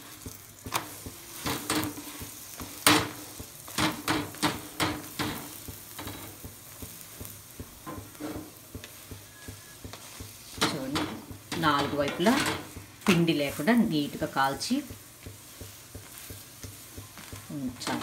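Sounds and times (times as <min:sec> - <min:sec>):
flatbread sizzling on a griddle: 0:00.0 - 0:18.0
spatula scraping: 0:00.1 - 0:18.0.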